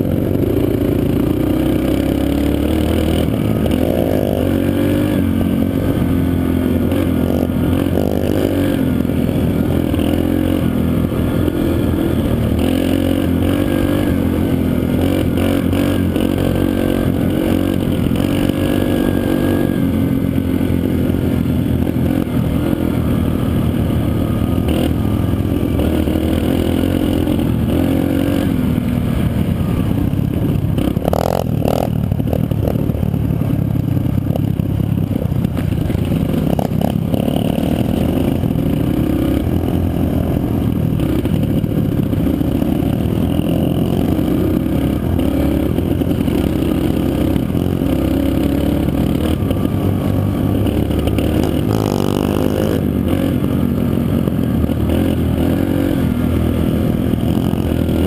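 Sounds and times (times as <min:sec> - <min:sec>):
dirt bike engine revving: 0:00.0 - 0:33.3, 0:35.5 - 0:58.0.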